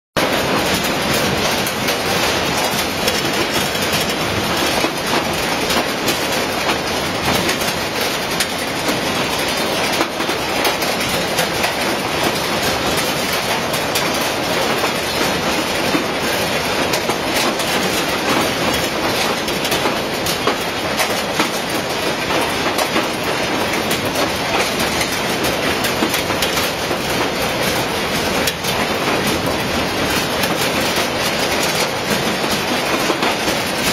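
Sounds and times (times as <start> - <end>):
dense rapid clicking: 0.2 - 33.9.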